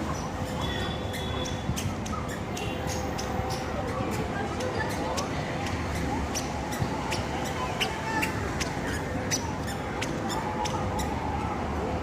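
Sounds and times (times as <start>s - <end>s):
murmur of distant voices: 0.0s - 12.0s.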